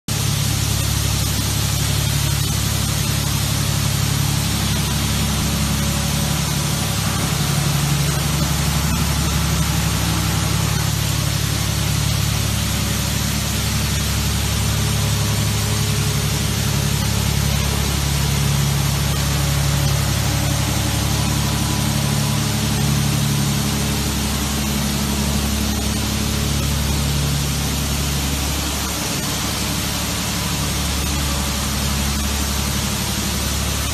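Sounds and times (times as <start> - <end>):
low mechanical hum: 0.1 - 33.9
water spray nozzles hissing: 0.2 - 33.9.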